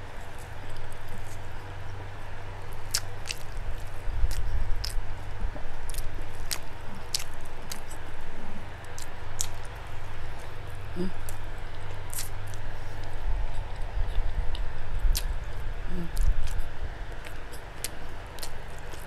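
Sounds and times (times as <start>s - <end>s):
steady low hum: 0.0s - 19.0s
chewing with wet mouth smacks: 0.1s - 19.0s.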